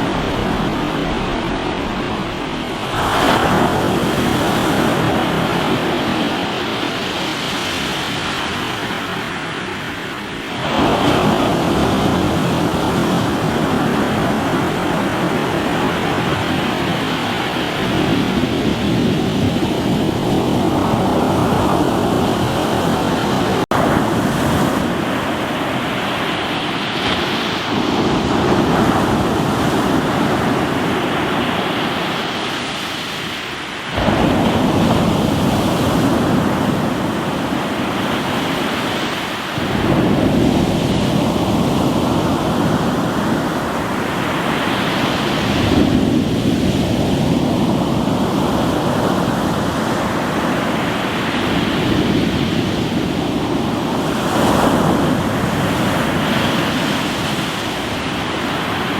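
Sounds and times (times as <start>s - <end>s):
waves breaking on rocky shore: 0.0s - 58.9s.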